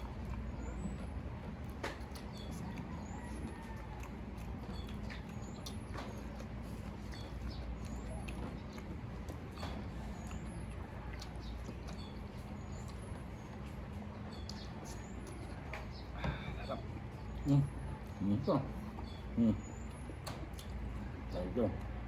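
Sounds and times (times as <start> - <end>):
chewing and lip smacks: 0.0 - 22.0.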